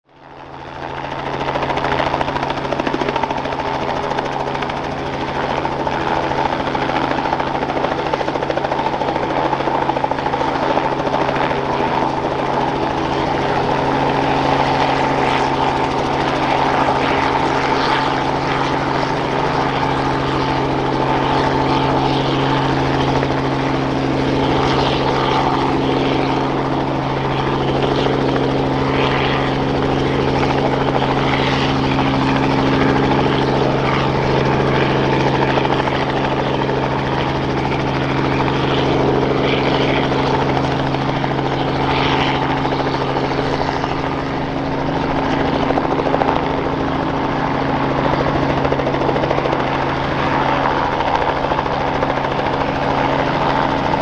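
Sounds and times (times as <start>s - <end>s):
helicopter hovering: 0.1s - 54.0s.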